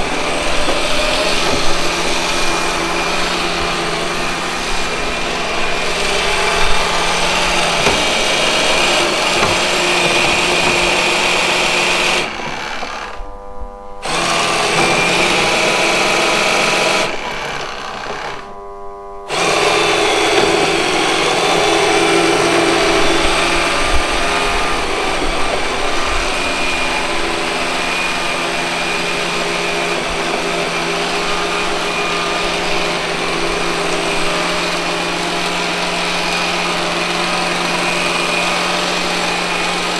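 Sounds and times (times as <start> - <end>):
robot vacuum cleaner motor: 0.0 - 13.4, 14.0 - 39.9.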